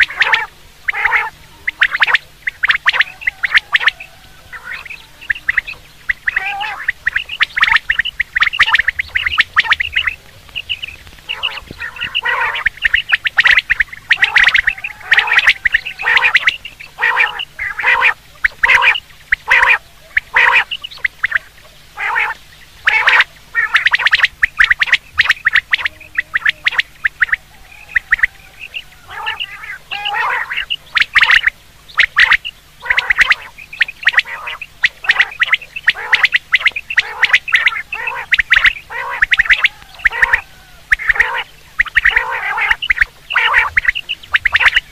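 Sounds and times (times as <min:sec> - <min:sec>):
quails calling: 0:00.0 - 0:44.9.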